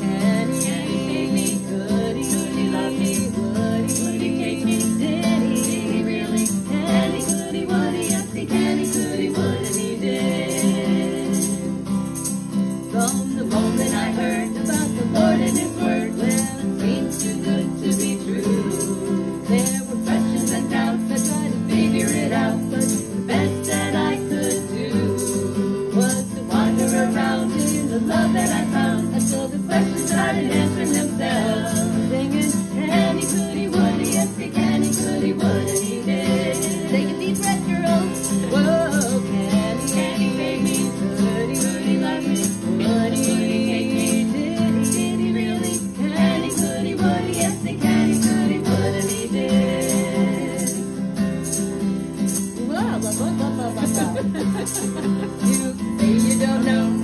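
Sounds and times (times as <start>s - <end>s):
women singing a hymn-like song: 0.0s - 51.6s, 52.4s - 57.0s
strummed acoustic guitar: 0.0s - 57.0s.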